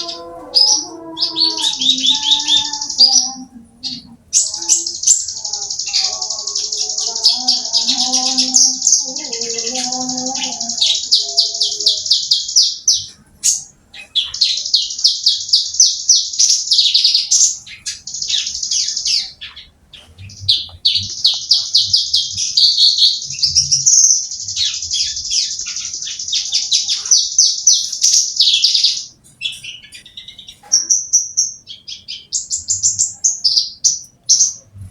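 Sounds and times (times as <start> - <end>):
lark singing: 0.0 - 30.4.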